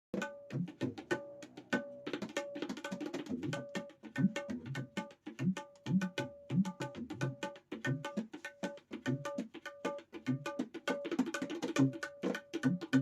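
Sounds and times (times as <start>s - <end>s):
hand drum played in quick rhythm: 0.1s - 13.0s.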